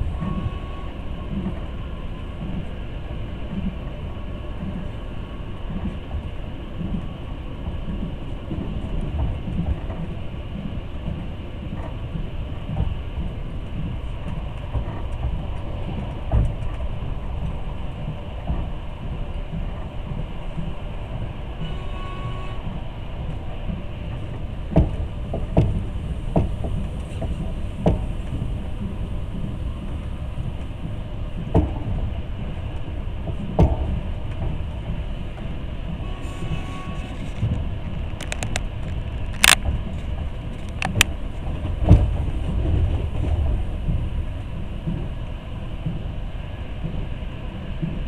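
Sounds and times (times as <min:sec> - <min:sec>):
train carriage rumbling: 0:00.0 - 0:48.0.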